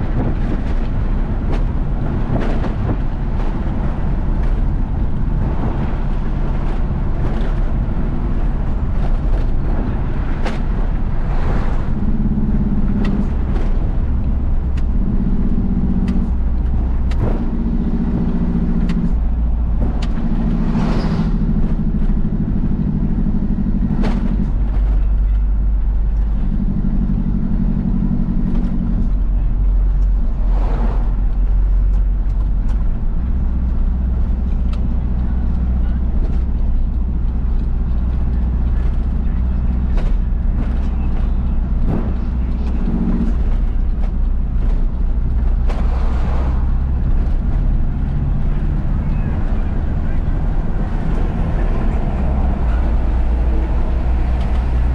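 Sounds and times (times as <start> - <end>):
road noise: 0.0 - 54.9
truck diesel engine running: 0.0 - 54.9.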